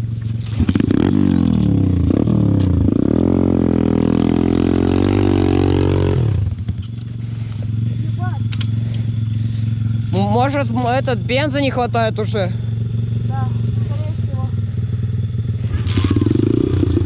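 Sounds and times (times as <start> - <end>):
small motorbike engine revving: 0.3 - 17.0.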